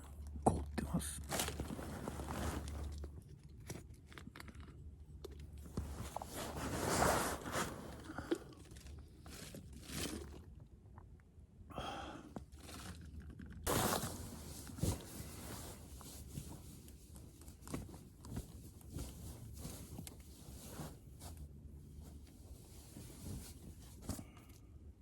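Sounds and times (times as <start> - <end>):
crunching and scraping handling noises: 1.2 - 11.1, 12.4 - 24.7.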